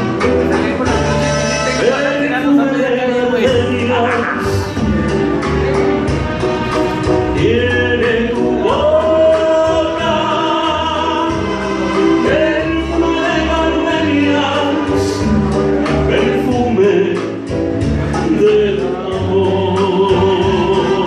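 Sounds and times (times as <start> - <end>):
band with bass line: 0.0 - 21.0
person singing bolero: 0.0 - 21.0.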